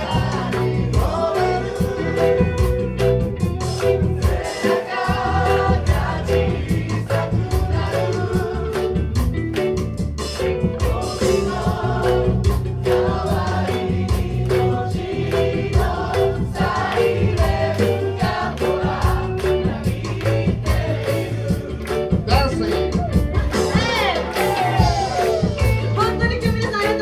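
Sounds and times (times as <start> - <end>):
group singing pop song: 0.0 - 9.6, 10.3 - 27.0
instrumental accompaniment with beat: 0.0 - 27.0.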